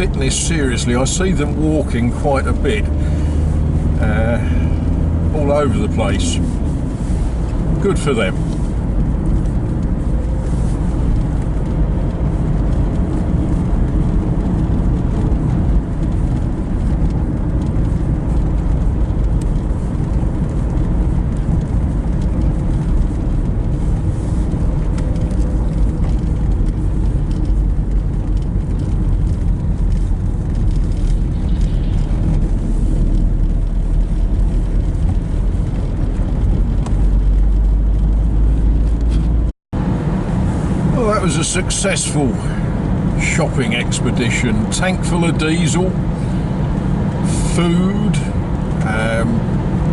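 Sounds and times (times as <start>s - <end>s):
car cabin engine and road rumble: 0.0s - 49.9s.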